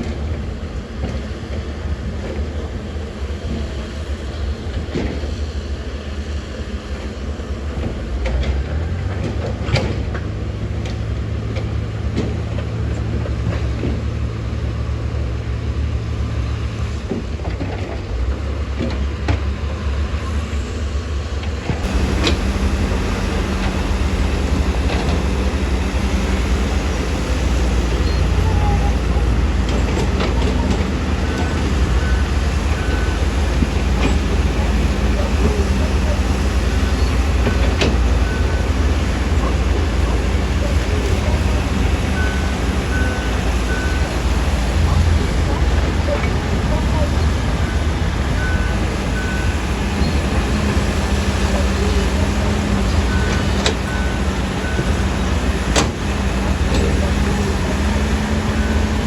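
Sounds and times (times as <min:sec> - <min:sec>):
diesel machinery running: 0:00.0 - 0:59.0.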